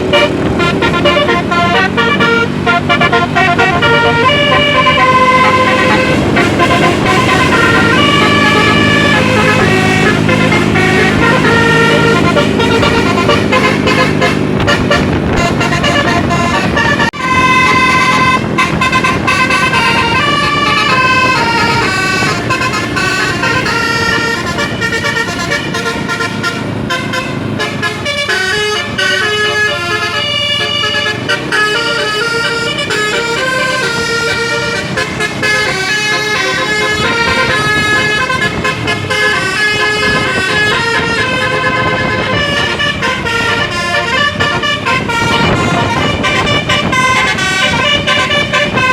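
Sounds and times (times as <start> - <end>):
musical air horn playing tune: 0.0 - 48.9.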